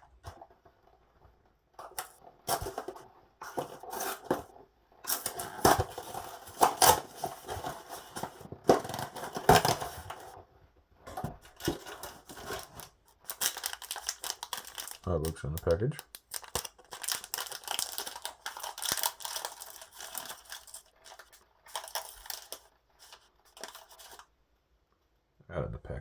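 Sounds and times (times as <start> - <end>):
snack packaging crinkling: 1.8 - 10.4, 11.4 - 24.3.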